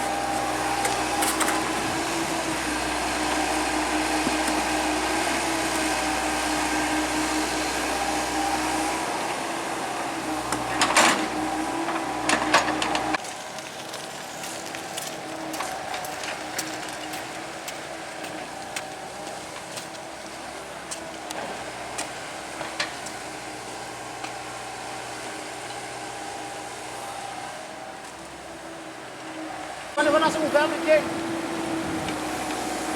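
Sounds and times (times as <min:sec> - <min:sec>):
excavator engine running: 0:00.0 - 0:32.9.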